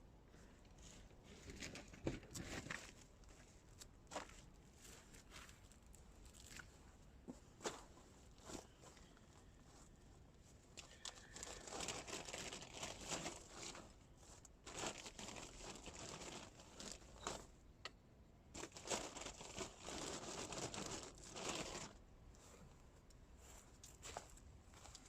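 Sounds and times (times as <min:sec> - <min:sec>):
crinkling and rustling: 0:00.4 - 0:17.6, 0:18.5 - 0:25.0.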